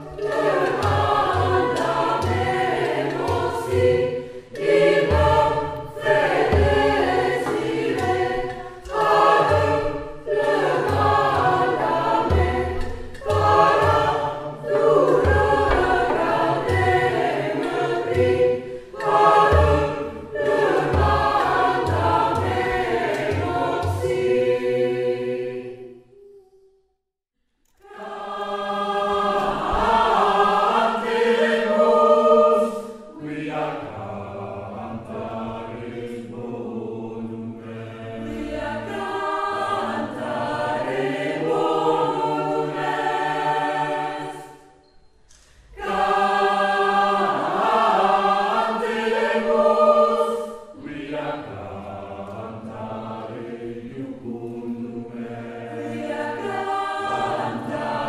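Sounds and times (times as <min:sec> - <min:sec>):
choir singing a cappella: 0:00.0 - 0:26.9, 0:27.8 - 0:58.0.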